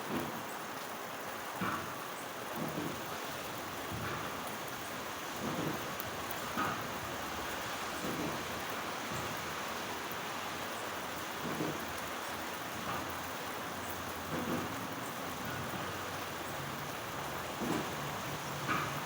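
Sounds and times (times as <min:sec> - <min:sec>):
rain falling: 0:00.0 - 0:19.0
raindrop splashes: 0:00.0 - 0:19.0.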